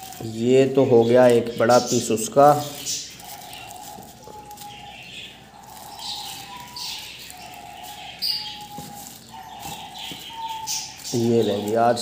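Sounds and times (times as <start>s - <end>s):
birds calling: 0.0s - 12.0s
plastic bag crinkling: 0.0s - 12.0s.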